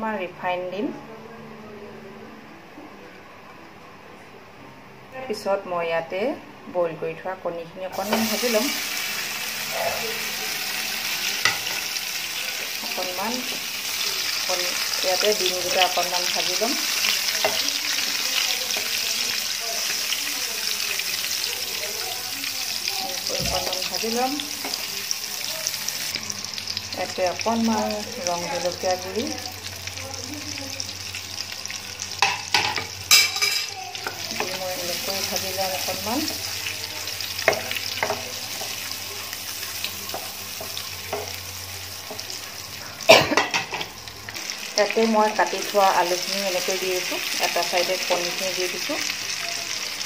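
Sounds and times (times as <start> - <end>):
eggs sizzling in hot oil: 7.9 - 50.0.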